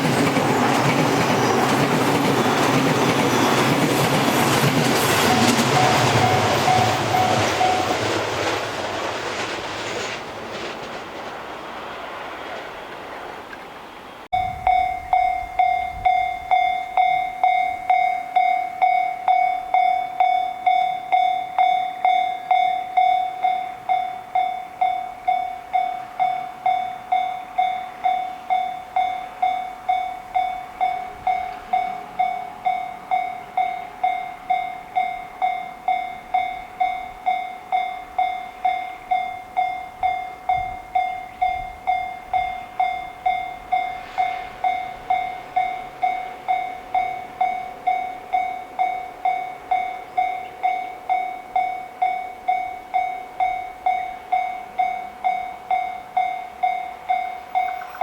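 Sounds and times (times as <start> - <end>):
railroad crossing bell ringing: 0.0 - 9.0, 14.3 - 58.0.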